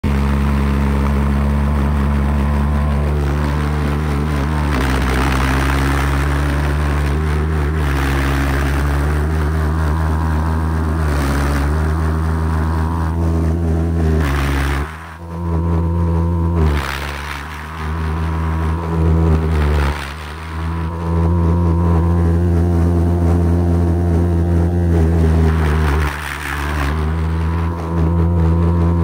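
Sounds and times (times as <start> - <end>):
jet engine droning: 0.0 - 29.0.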